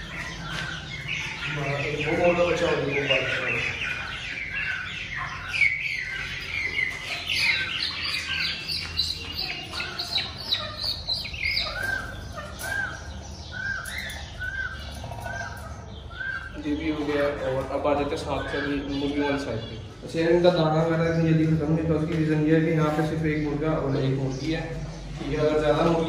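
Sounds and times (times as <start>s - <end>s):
caged birds chirping: 0.0s - 26.0s
repeated bird calls: 0.0s - 26.0s.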